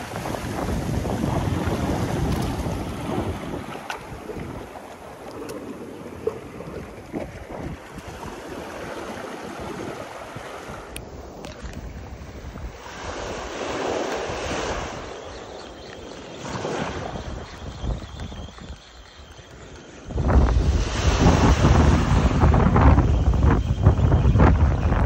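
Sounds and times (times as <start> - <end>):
sea surf washing onto beach: 0.0 - 23.6
wind buffeting microphone: 0.0 - 25.0.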